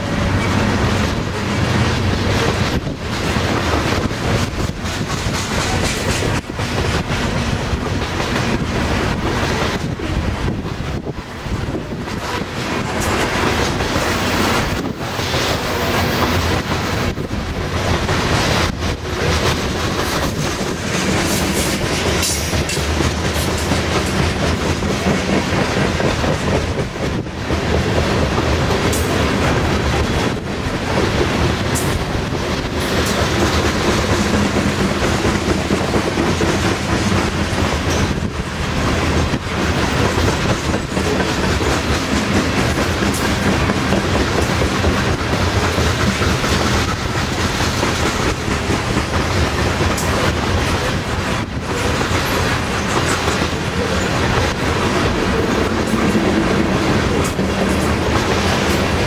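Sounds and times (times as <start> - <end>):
freight train wheels rolling: 0.0 - 59.0.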